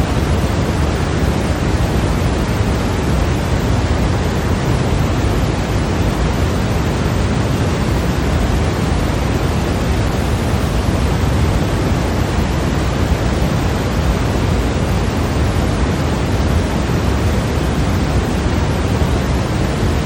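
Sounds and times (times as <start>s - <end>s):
white noise hiss: 0.0s - 20.0s.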